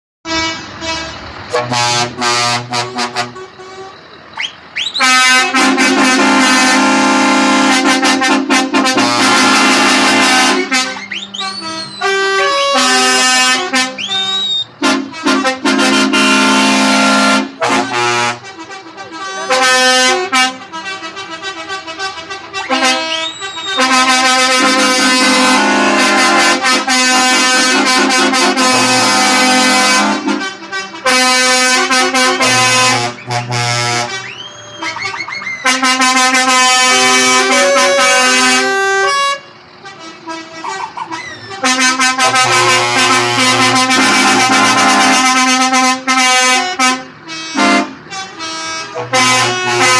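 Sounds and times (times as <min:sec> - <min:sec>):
truck air horns blasting a tune: 0:00.3 - 0:49.9.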